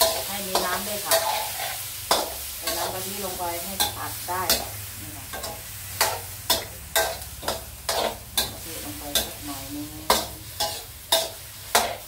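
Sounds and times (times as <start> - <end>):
frying sizzle: 0.0 - 12.0
metal spatula scraping wok: 0.0 - 12.0.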